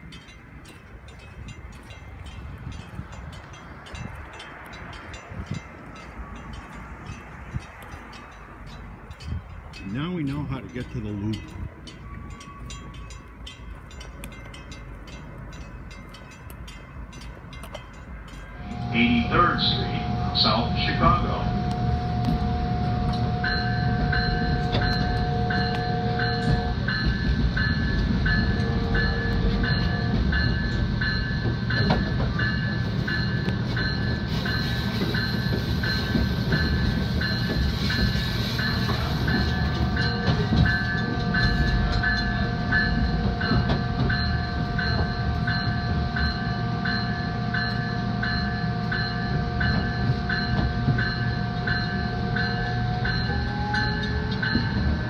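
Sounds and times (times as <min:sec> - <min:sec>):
train rumble: 0:00.0 - 0:55.0
train whine: 0:00.0 - 0:55.0
warning bell dinging: 0:01.1 - 0:55.0.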